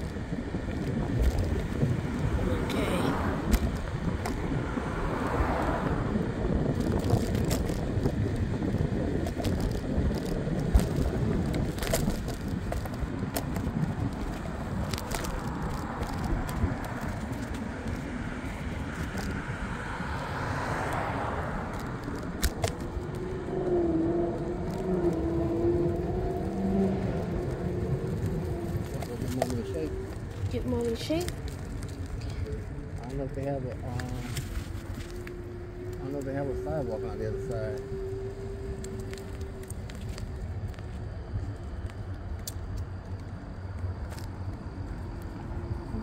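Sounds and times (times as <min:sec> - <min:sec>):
scooter road rumble: 0:00.0 - 0:46.0
wavering hum: 0:00.0 - 0:46.0
wind buffeting microphone: 0:00.0 - 0:46.0.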